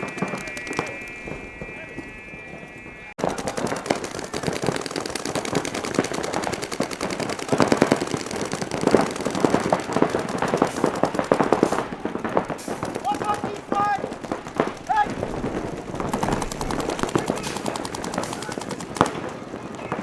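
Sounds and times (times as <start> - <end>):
paintball guns firing: 0.0 - 1.8, 3.2 - 20.0.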